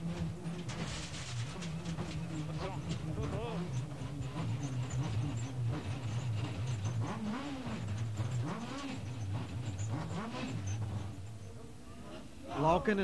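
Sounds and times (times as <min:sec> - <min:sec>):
rally car engine revving: 0:00.0 - 0:12.9.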